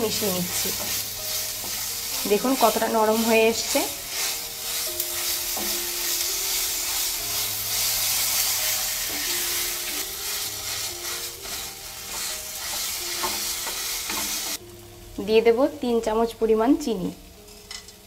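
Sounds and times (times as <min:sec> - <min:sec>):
wooden spatula stirring in pan: 0:00.0 - 0:14.6
food sizzling in hot oil: 0:00.0 - 0:18.0.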